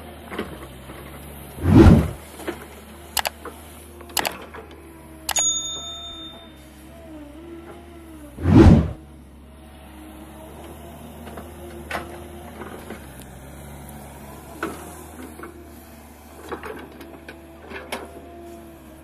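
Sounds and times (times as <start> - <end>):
excavator diesel engine running: 0.1 - 19.0.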